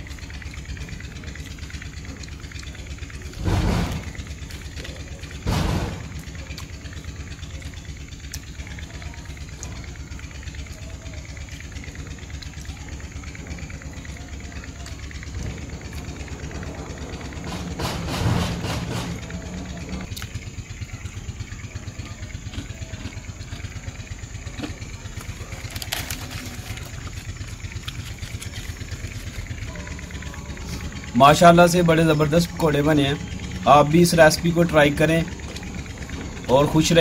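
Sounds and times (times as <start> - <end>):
engine running with low pulsing: 0.0 - 37.0.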